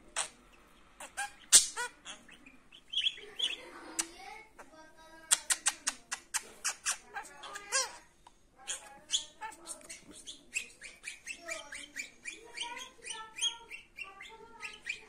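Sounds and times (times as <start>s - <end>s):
budgerigar chirping and warbling: 0.1s - 4.7s, 5.3s - 15.0s.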